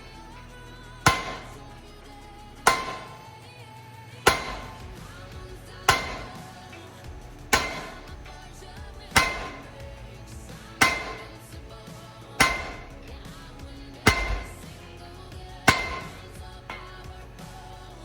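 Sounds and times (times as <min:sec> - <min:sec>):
hammer striking steel: 0:00.0 - 0:18.0.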